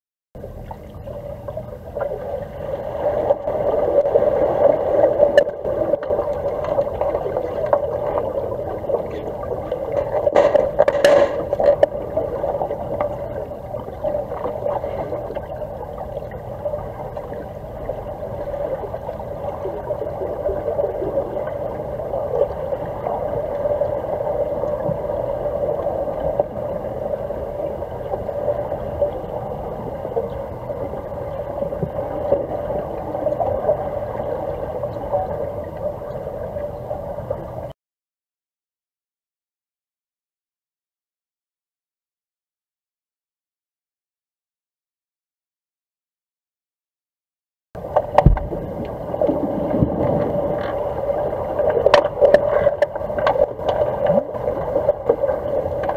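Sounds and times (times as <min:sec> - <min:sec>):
underwater low hum: 0:00.4 - 0:37.8, 0:47.8 - 0:55.9.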